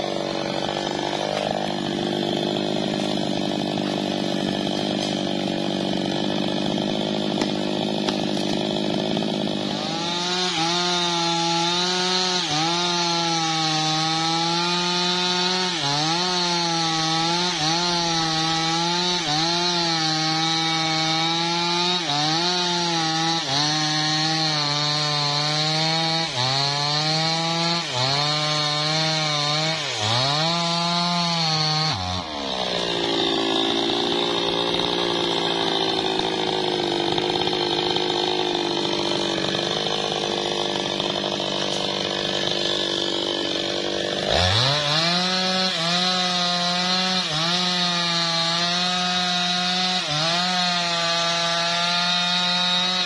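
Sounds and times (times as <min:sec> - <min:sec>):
chainsaw cutting log: 0:00.0 - 0:53.0.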